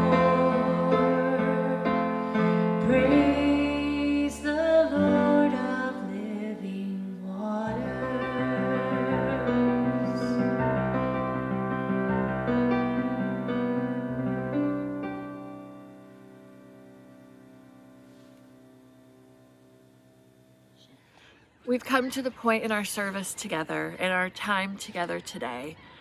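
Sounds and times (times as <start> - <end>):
slow gentle song: 0.0 - 21.2.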